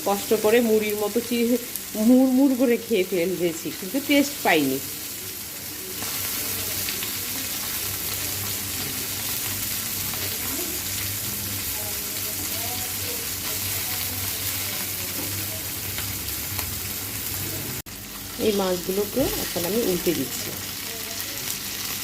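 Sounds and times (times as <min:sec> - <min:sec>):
fish sizzling in hot oil: 0:00.0 - 0:22.0.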